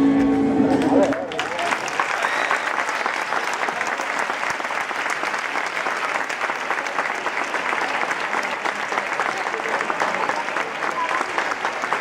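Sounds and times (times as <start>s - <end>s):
audience applauding: 0.7s - 12.0s.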